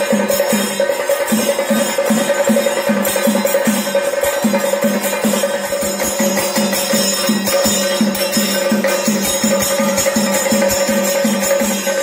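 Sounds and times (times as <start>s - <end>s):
cymbal shimmer: 0.0s - 12.0s
drums beating fast rhythm: 0.0s - 12.0s.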